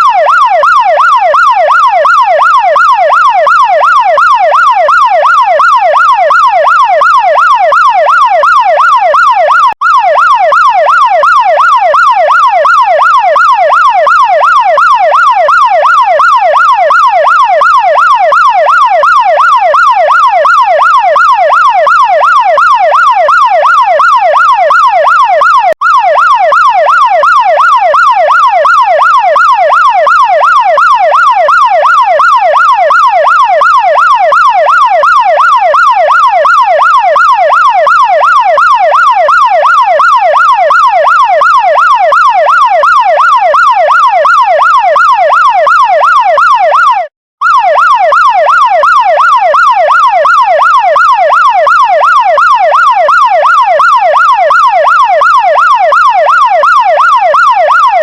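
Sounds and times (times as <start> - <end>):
fire truck siren yelp: 0.0 - 58.0.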